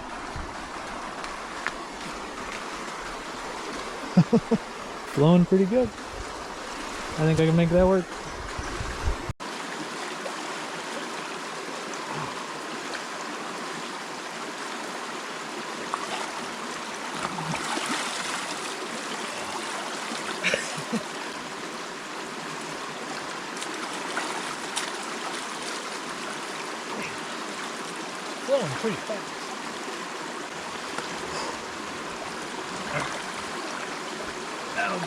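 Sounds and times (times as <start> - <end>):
river water rushing over rocks: 0.0 - 7.5, 9.4 - 35.0.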